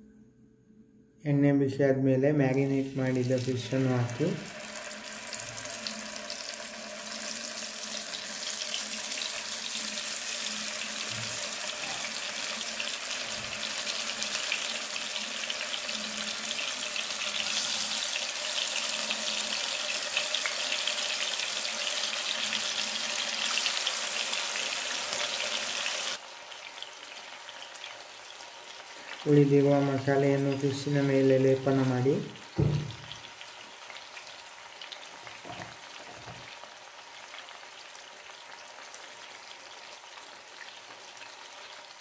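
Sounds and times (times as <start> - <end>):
fish sizzling in hot oil: 2.6 - 42.0.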